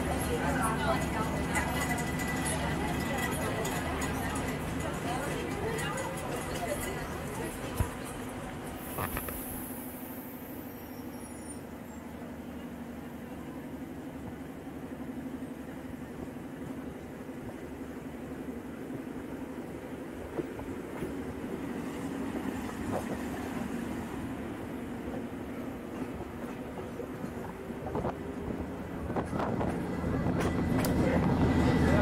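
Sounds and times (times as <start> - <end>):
rumbling wheel noise: 0.0 - 9.9, 15.2 - 32.0
electric train hum: 0.0 - 32.0.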